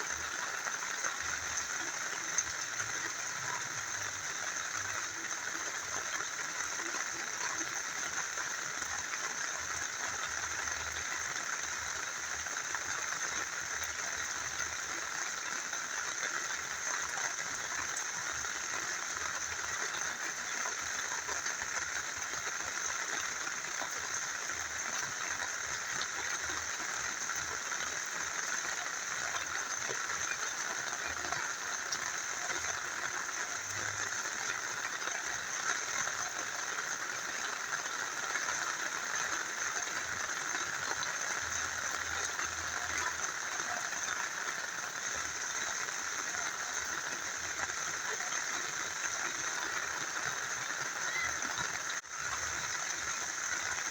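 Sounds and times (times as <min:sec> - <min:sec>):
rain falling: 0:00.0 - 0:53.9
small river flowing: 0:00.0 - 0:53.9.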